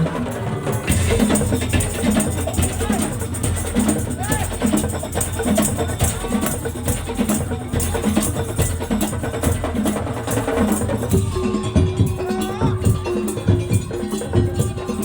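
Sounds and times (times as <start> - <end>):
wooden slit drums beating: 0.0 - 15.0.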